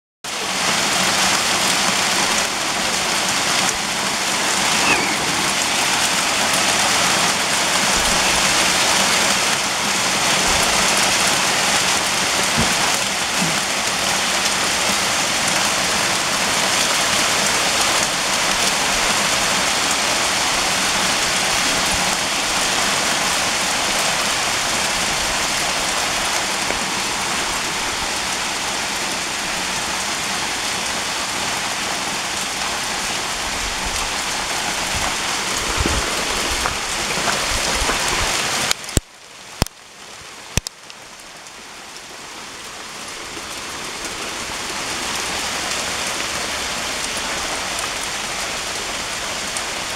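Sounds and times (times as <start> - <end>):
hail pounding patio: 0.3 - 49.9.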